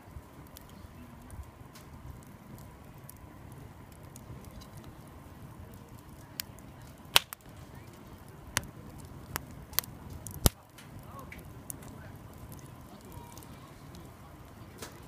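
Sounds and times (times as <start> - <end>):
low rush of flames: 0.0 - 15.0
wood crackling and popping: 0.0 - 15.0.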